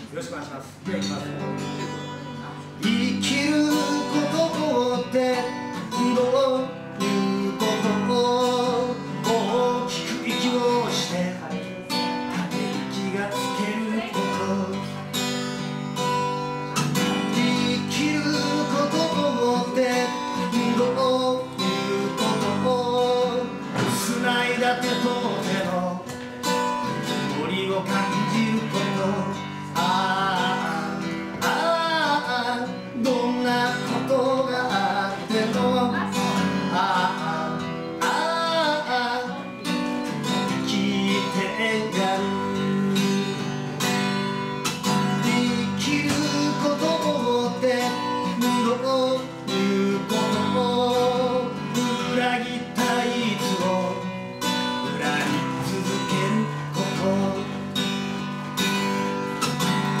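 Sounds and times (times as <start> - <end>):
acoustic guitar strumming: 0.0 - 60.0.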